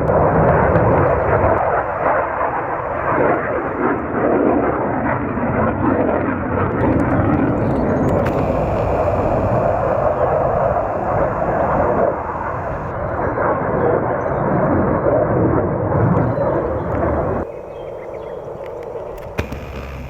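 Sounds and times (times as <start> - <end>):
aircraft engine rumble: 0.0 - 14.7, 15.9 - 20.0.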